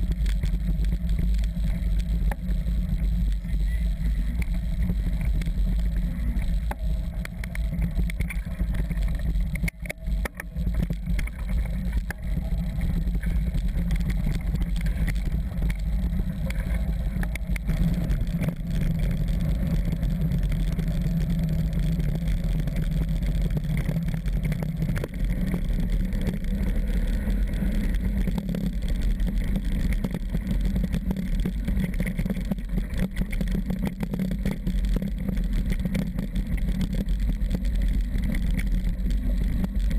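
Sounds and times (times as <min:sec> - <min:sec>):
bike tyres on gravel: 0:00.0 - 0:39.9
wind rumbling on microphone: 0:00.0 - 0:39.9.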